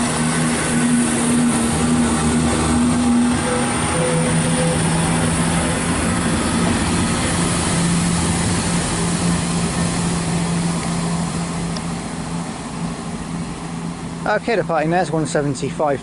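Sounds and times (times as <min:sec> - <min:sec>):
diesel train engines humming: 0:00.0 - 0:16.0.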